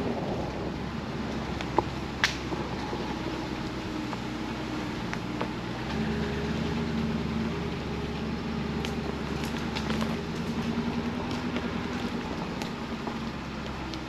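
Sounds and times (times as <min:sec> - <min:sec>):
vehicle engine driving off: 0:00.0 - 0:14.0.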